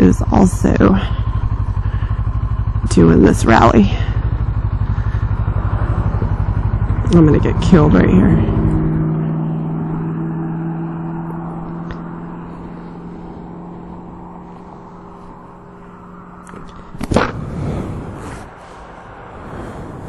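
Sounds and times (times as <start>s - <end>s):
motorcycle engine idling: 0.0s - 19.3s
road and wind noise: 0.0s - 20.0s.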